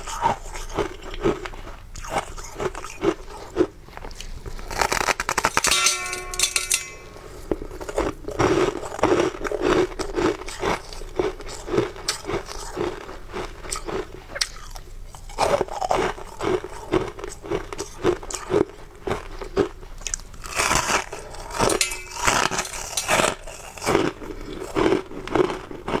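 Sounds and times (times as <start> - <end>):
teeth crunching ice: 0.0 - 5.7, 7.6 - 26.0.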